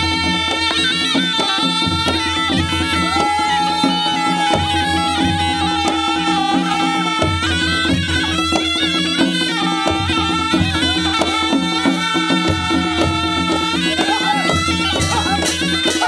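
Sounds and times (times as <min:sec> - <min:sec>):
barrel drum beat: 0:00.0 - 0:16.0
shawms playing folk melody: 0:00.0 - 0:16.0.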